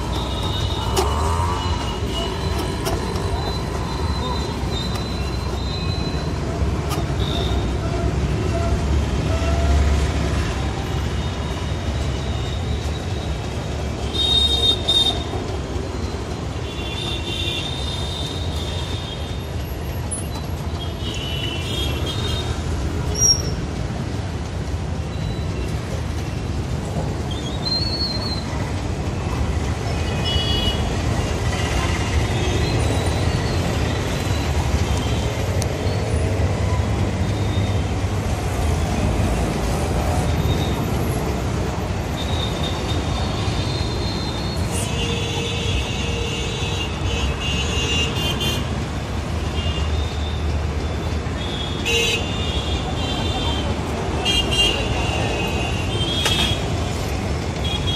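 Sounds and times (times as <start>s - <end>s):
traffic rumble: 0.0s - 57.9s.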